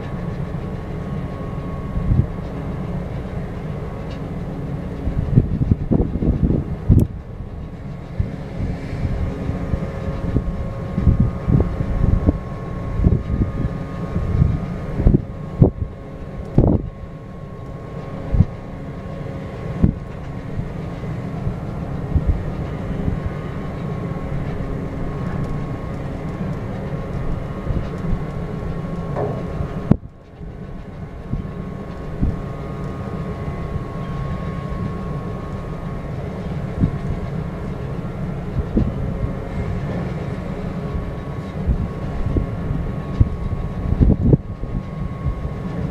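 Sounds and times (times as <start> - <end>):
ship machinery hum: 0.0 - 45.9.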